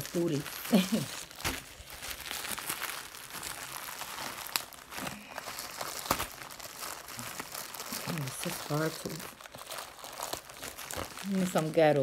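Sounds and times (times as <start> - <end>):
plastic mailer bag crinkling: 0.0 - 12.0.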